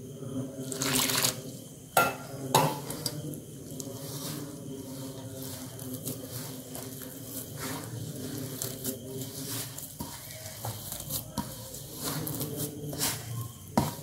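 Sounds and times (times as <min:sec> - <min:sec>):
hand kneading dough in steel bowl: 0:02.2 - 0:14.0.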